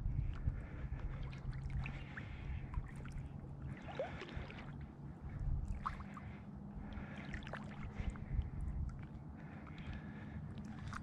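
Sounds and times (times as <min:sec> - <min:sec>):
wind rumbling on microphone: 0:00.0 - 0:11.0
small waves lapping: 0:00.2 - 0:11.0.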